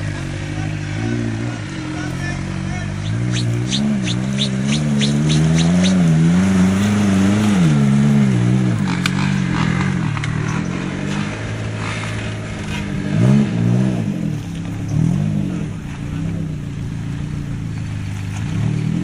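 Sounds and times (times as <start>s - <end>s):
engine revving under load: 0.0s - 19.0s.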